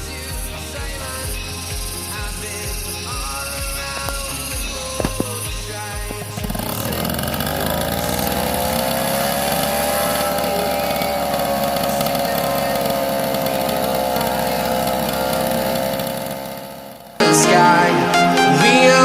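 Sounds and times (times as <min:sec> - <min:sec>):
small model engine running fast: 0:00.0 - 0:17.2.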